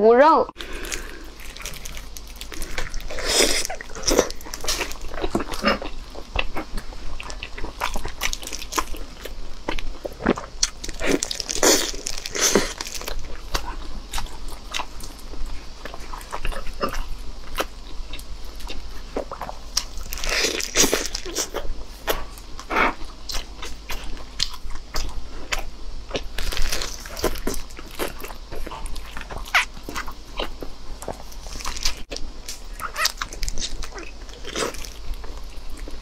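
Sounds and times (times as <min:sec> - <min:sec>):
chewing with mouth clicks: 0:00.6 - 0:36.0.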